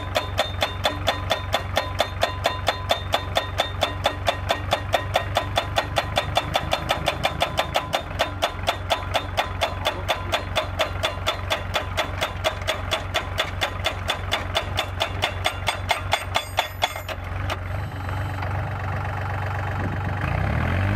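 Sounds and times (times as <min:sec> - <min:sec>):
pile driver hammer striking steel: 0:00.0 - 0:17.6.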